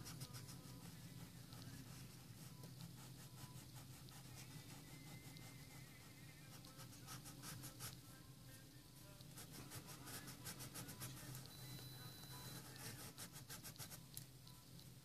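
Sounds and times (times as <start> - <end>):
blending stump rubbing on paper: 0.0 - 8.1, 9.2 - 11.5, 12.5 - 14.2.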